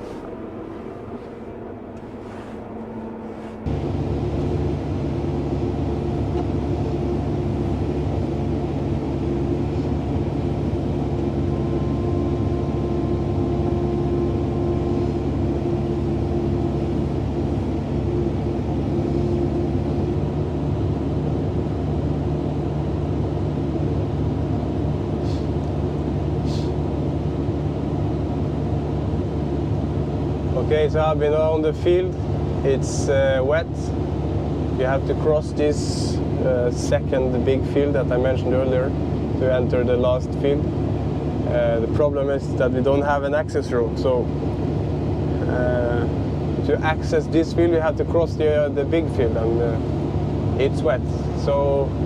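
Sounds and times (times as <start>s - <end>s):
vehicle engine running steadily: 0.0s - 52.0s.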